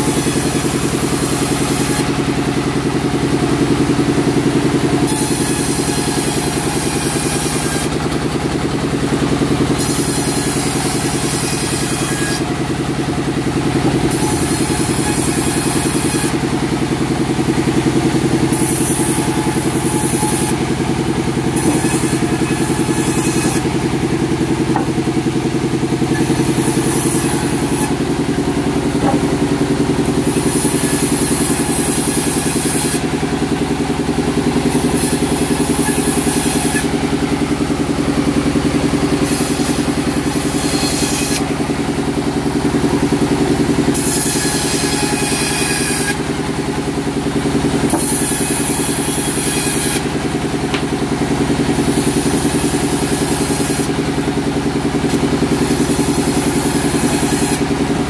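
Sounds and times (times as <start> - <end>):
sawmill engine drone: 0.0 - 58.0.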